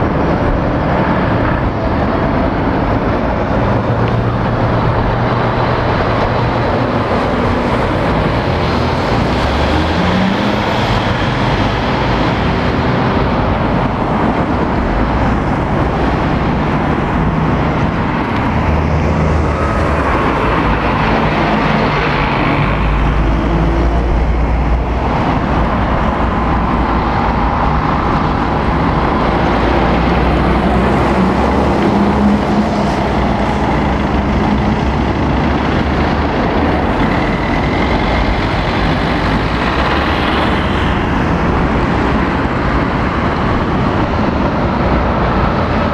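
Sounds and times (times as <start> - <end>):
cars passing: 0.0 - 45.9
lorry diesel engine: 0.0 - 45.9.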